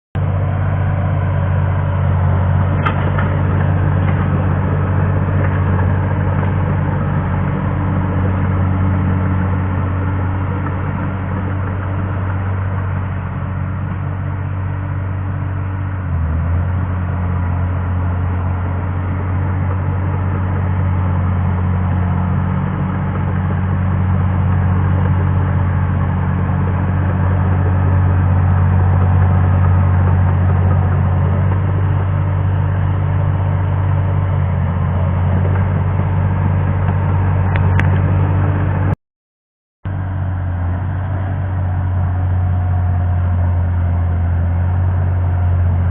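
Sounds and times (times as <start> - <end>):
bulldozer diesel engine running: 0.2 - 39.0, 39.9 - 45.9.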